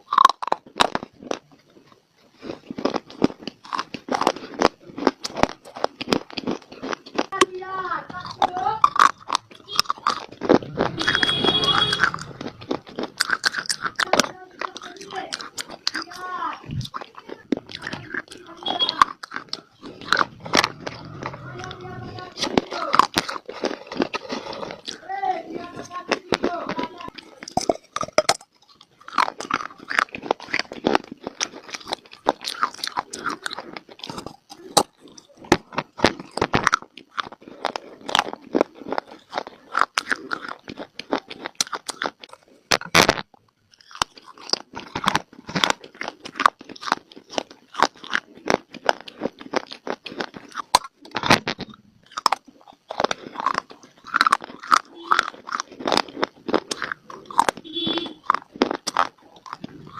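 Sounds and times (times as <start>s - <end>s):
dry clay crunching while chewed: 0.0s - 59.9s.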